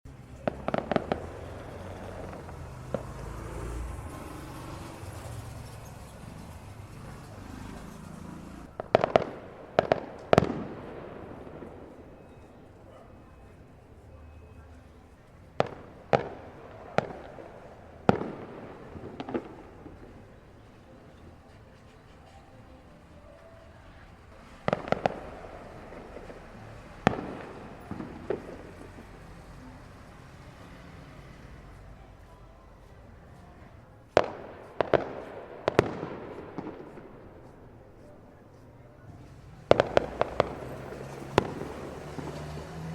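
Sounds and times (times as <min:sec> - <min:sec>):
fireworks exploding: 0:00.2 - 0:42.9.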